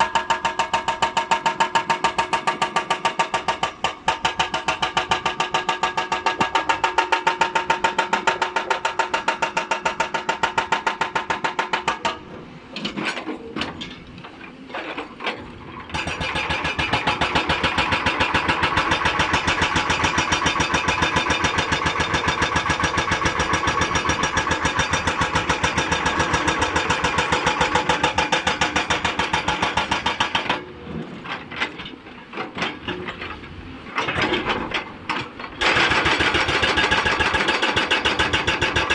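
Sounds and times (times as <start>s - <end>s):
hydraulic breaker hammering rock: 0.0s - 12.3s, 14.8s - 30.7s, 34.0s - 38.9s.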